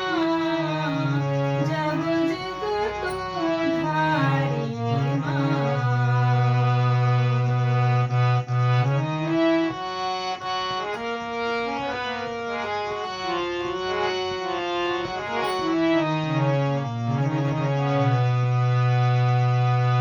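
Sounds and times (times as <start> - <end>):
harmonium melody: 0.0 - 20.0.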